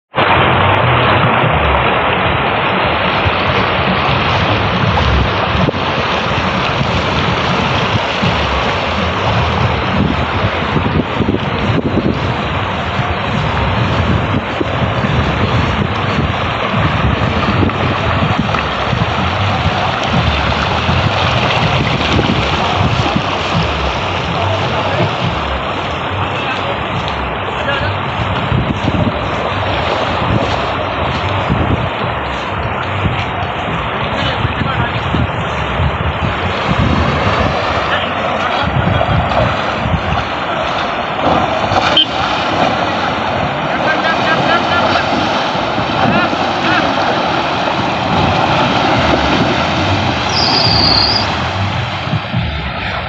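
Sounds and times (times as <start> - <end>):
rush of churned water: 0.1 - 53.0
wind buffeting microphone: 0.1 - 53.0.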